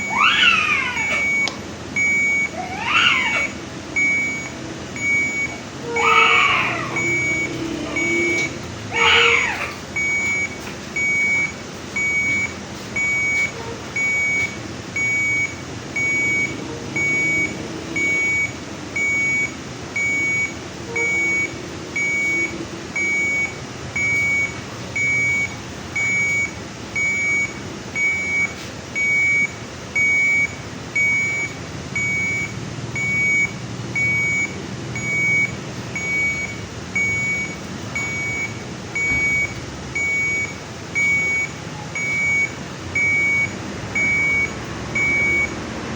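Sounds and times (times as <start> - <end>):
low background hum: 0.0 - 45.9
medical monitor alarm beeping: 0.0 - 45.9.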